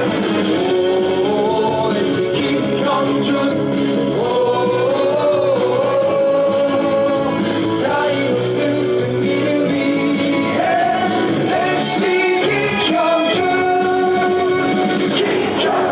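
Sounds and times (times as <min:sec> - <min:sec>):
upbeat music with singing: 0:00.0 - 0:15.9.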